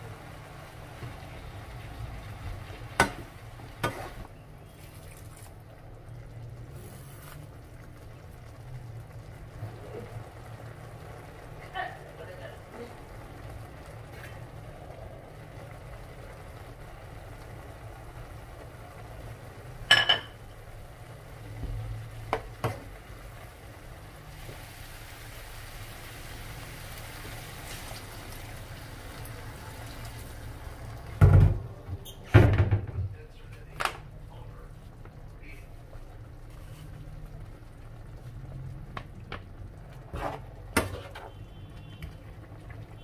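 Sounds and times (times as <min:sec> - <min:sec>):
food simmering in a frying pan: 0:00.0 - 0:32.2, 0:33.4 - 0:43.0.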